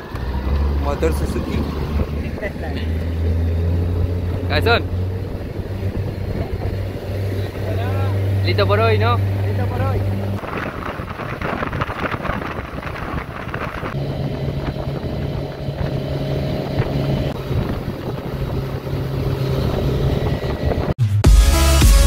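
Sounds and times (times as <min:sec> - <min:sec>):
wind on microphone: 0:00.0 - 0:08.4, 0:09.1 - 0:21.0
outboard motor running: 0:00.0 - 0:20.9.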